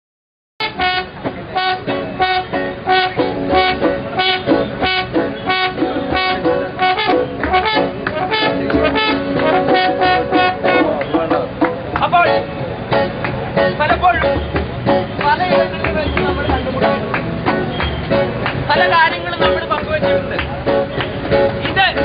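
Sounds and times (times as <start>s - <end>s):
band playing music: 0.6s - 22.0s.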